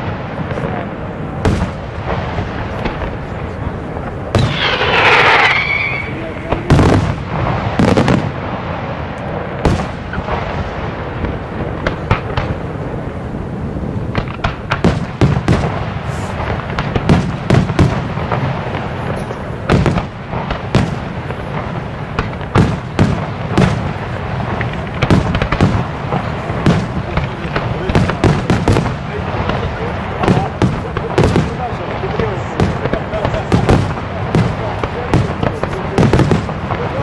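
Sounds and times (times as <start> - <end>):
firework shells bursting: 1.4 - 13.2, 14.0 - 37.0.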